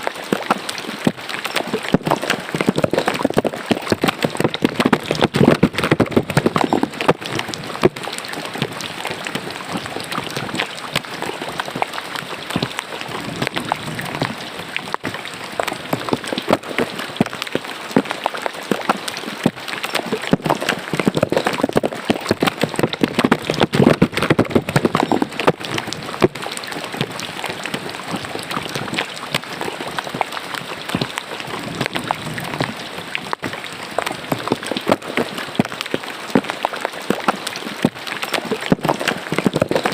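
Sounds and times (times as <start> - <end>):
rain patter: 0.0 - 39.9
water running into drain: 0.0 - 39.9.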